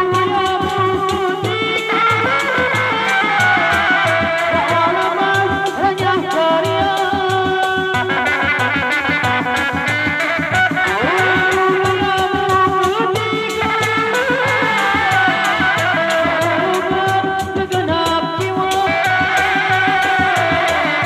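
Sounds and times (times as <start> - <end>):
hand drums interlocking beat: 0.0 - 21.0.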